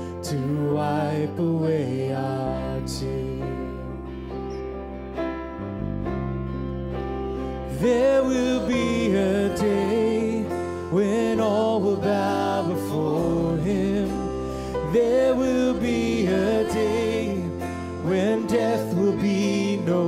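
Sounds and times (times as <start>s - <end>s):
man singing: 0.0s - 4.1s, 7.7s - 20.0s
guitar: 0.0s - 20.0s
low bass notes: 0.4s - 20.0s.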